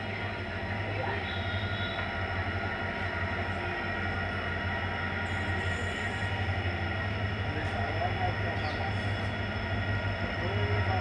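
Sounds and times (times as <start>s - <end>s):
low hum and rumble of trains: 0.0s - 11.0s.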